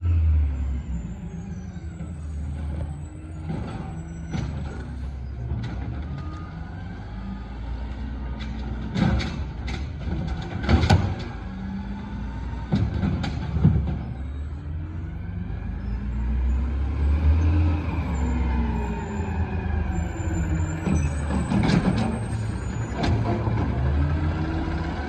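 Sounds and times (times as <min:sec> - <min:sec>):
garbage truck engine rumbling: 0:00.0 - 0:25.0.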